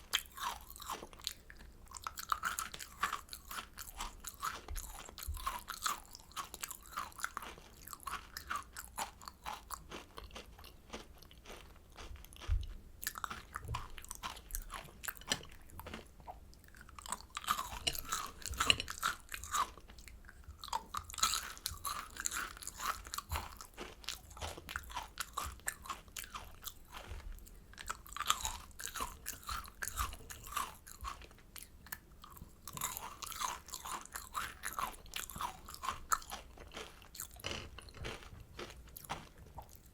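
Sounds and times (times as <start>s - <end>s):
crunching candy chewing: 0.0s - 39.9s.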